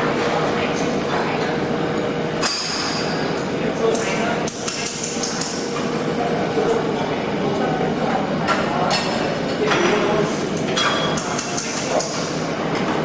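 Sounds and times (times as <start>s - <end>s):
workshop noise: 0.0s - 13.0s.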